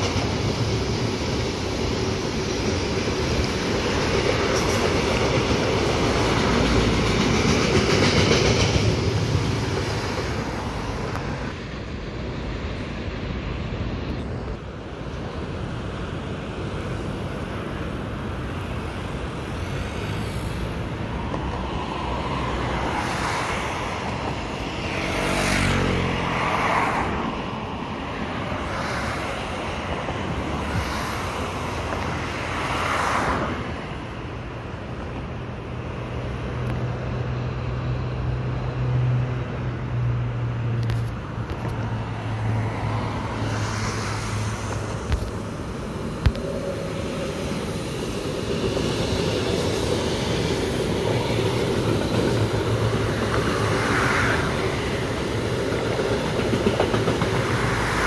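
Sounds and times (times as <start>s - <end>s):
freight train low hum: 0.0s - 58.0s
motorway traffic passing: 0.0s - 58.0s.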